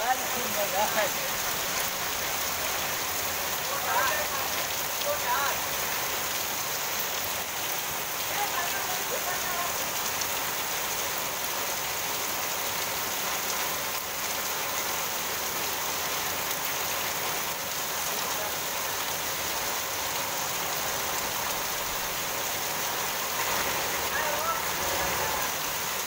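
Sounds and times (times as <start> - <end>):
torrential rain on a street: 0.0 - 26.0.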